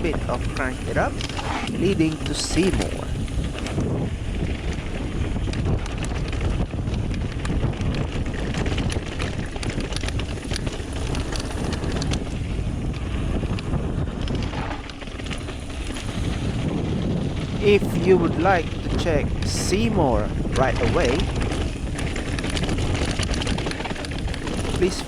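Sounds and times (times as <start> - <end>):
bike rattles and clicks: 0.0 - 17.7, 20.3 - 24.9
bike tyre rumble: 0.0 - 25.0
wind rushing over microphone: 0.0 - 25.0.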